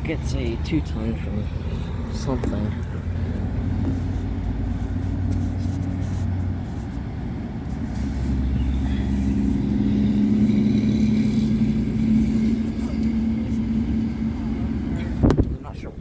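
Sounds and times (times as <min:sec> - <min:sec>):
vehicle engines in traffic: 0:00.0 - 0:16.0.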